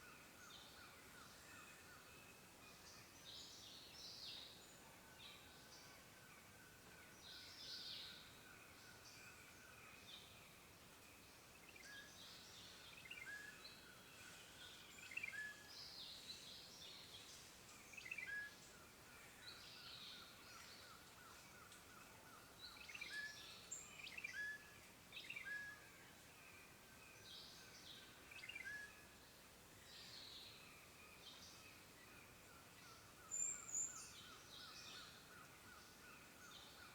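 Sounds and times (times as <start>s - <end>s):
soft steady background hiss: 0.0s - 36.9s.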